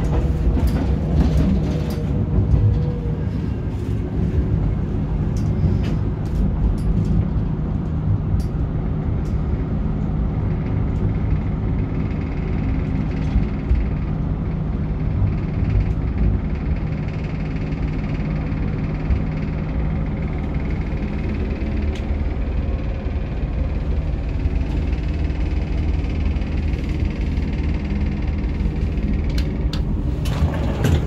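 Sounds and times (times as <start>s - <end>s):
train engine rumble: 0.0s - 31.0s.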